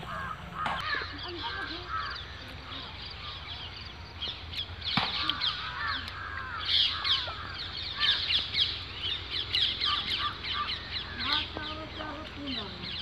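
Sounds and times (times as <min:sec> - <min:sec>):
birds calling: 0:00.0 - 0:13.0
low steady rumble: 0:00.0 - 0:13.0.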